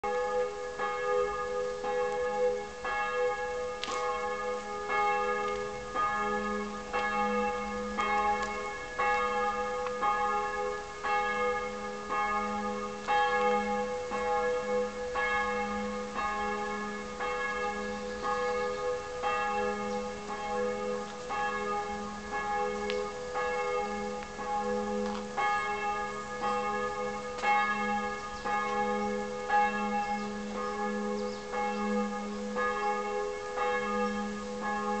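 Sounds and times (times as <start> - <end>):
church bells ringing: 0.0 - 35.0.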